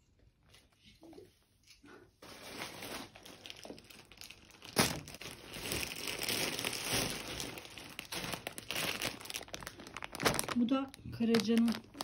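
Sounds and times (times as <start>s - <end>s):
plastic packaging crinkling: 2.2s - 12.0s.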